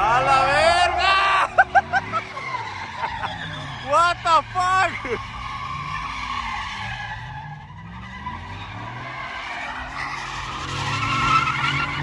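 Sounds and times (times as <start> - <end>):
truck engine revving: 0.0 - 12.0
truck tires squealing: 0.0 - 12.0.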